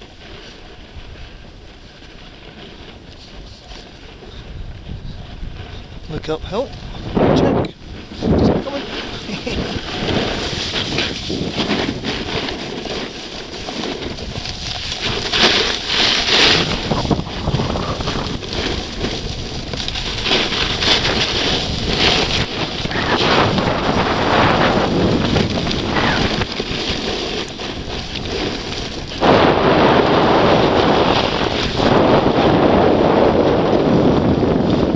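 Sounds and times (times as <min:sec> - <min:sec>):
skis scraping packed snow: 0:00.0 - 0:34.9
wind buffeting microphone: 0:00.0 - 0:34.9.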